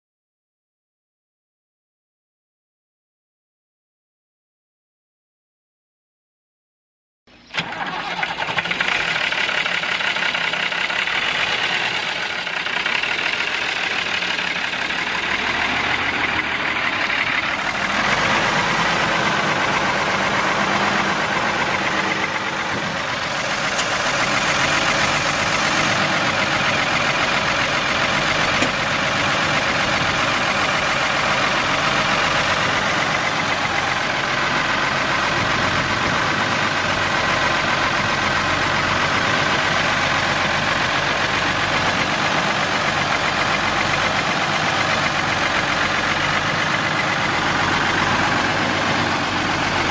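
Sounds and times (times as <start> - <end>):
tractor diesel engine running: 7.3 - 49.9.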